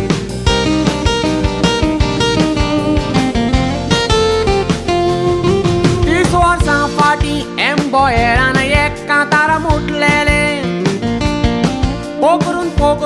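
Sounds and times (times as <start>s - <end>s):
sliding melody line: 0.0s - 12.5s
song with guitar bass and drums: 0.0s - 13.0s.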